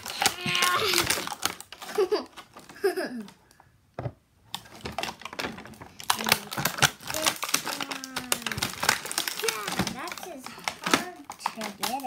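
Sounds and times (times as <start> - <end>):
plastic packaging crinkling: 0.0 - 3.0, 4.4 - 12.0.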